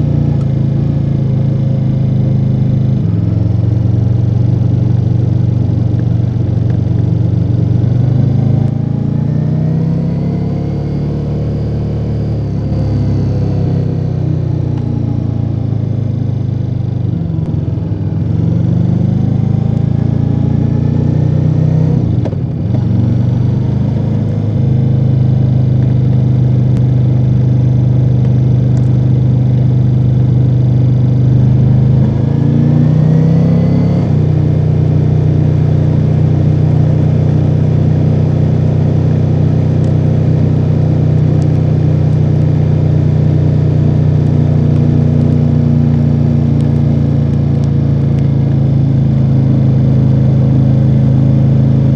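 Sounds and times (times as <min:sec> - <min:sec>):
motorcycle engine while riding: 0:00.0 - 0:51.9.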